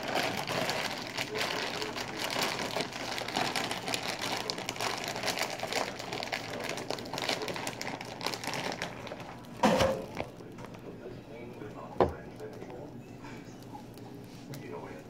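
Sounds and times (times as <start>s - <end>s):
plastic piping bag crinkling: 0.0s - 15.0s.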